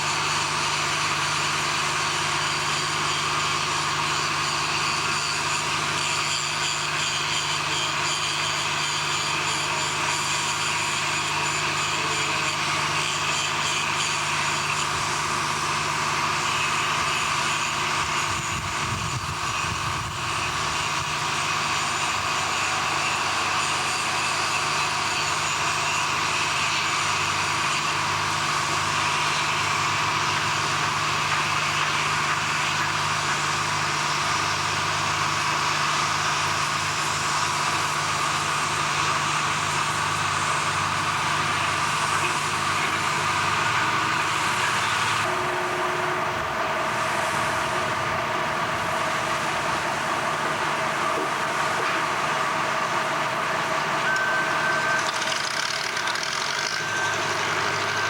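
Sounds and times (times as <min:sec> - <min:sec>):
heavy machinery drone: 0:00.0 - 0:58.0.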